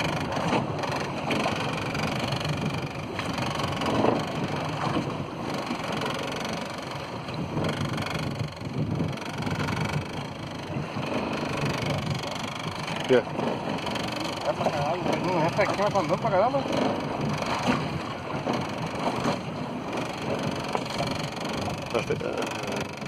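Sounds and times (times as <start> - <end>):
boat engine hum: 0.0 - 23.0
wind buffeting microphone: 0.0 - 23.0.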